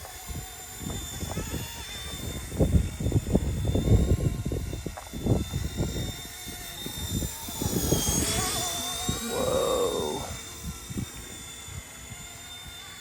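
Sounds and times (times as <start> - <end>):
wind buffeting microphone: 0.0 - 12.9
remote-control helicopter whine: 0.0 - 13.0.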